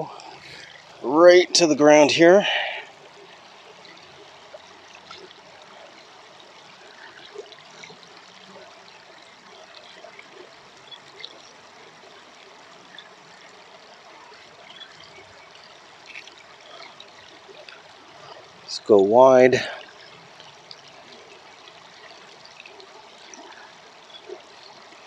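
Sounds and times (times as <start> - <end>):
creek water trickling: 0.0 - 25.0
faint ticks: 0.0 - 25.0.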